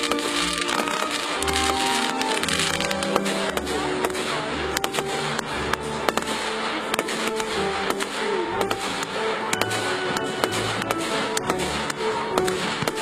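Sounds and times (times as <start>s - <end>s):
fireworks bursting and crackling: 0.0s - 13.0s
music playing: 0.0s - 13.0s.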